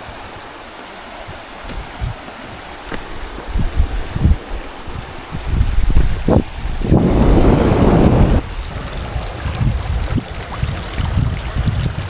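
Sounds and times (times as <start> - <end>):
rushing river water: 0.0 - 12.0
wind buffeting microphone: 0.0 - 12.0.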